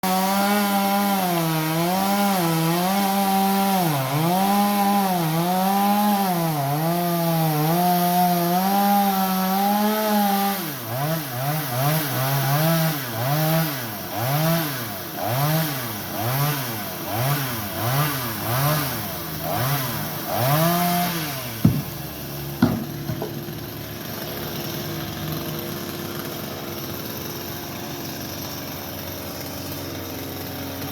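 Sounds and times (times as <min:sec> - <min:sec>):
chainsaw cutting wood: 0:00.0 - 0:30.9
chainsaw idling: 0:00.0 - 0:30.9
chainsaw revving: 0:00.0 - 0:30.9.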